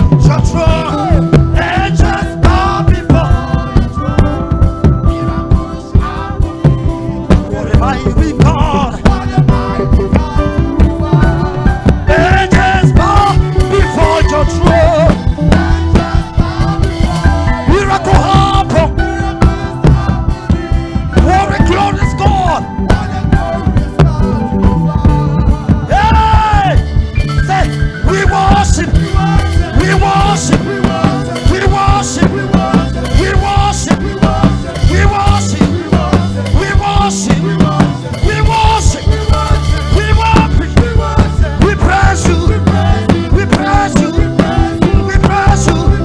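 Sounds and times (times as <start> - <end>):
fast drum beat: 0.0 - 46.0
live worship band: 0.0 - 46.0
person singing: 0.0 - 46.0.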